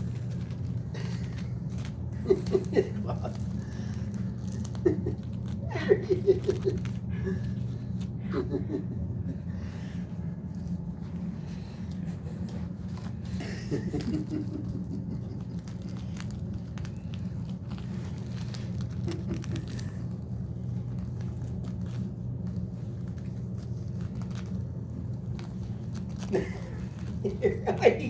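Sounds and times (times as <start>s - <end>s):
parrot rustling and crinkling: 0.0s - 28.0s
steady low hum: 0.0s - 28.0s.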